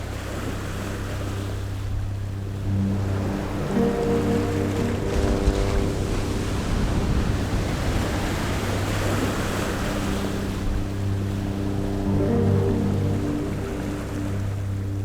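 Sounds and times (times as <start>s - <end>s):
ocean waves washing in: 0.0s - 15.0s
soft background music: 0.0s - 15.0s.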